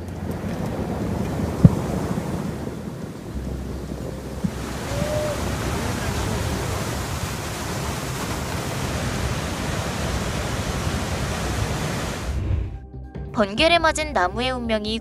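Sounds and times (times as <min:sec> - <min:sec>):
flash flood water rushing: 0:00.0 - 0:12.4.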